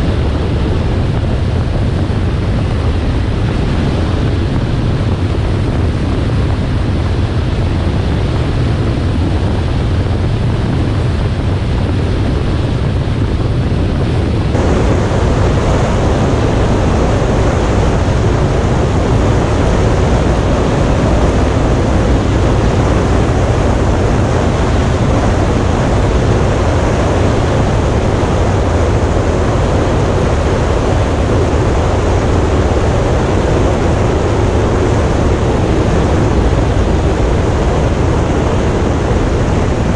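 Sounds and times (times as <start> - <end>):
motorcycle engine noise: 0.0 - 39.9
wind rush on microphone: 0.0 - 39.9.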